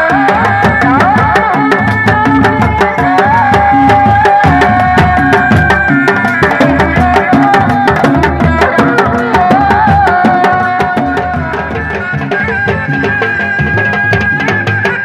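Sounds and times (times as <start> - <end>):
drums in fast interlocking rhythm: 0.0 - 15.0
shawm melody: 0.0 - 15.0.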